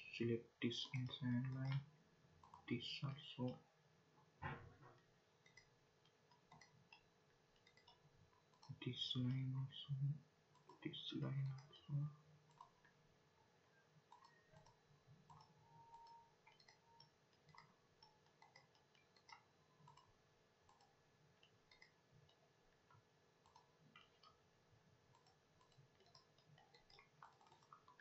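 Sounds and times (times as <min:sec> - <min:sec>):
computer mouse clicks: 0:00.7 - 0:03.6, 0:04.5 - 0:09.5, 0:10.5 - 0:11.8, 0:12.5 - 0:13.0, 0:14.1 - 0:24.4, 0:25.1 - 0:28.0.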